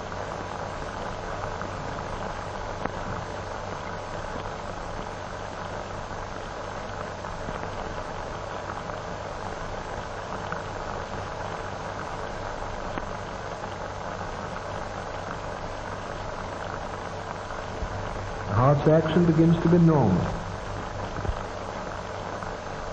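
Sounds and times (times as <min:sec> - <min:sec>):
film soundtrack hiss and hum: 0:00.0 - 0:22.9
faint crackles: 0:00.3 - 0:22.9.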